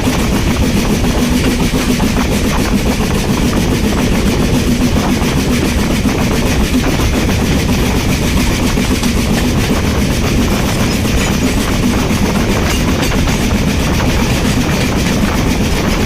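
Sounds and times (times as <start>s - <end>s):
steam locomotive exhaust beats: 0.0s - 16.0s
train rumbling on rails: 0.0s - 16.0s.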